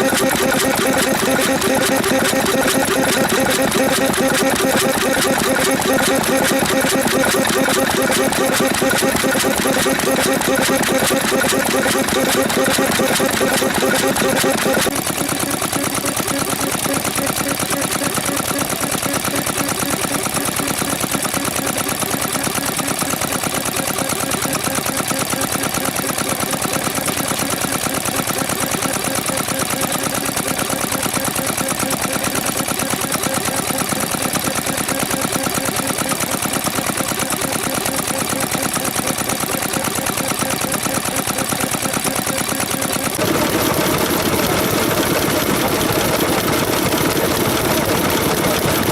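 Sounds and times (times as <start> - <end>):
stationary engine running: 0.0 - 48.9.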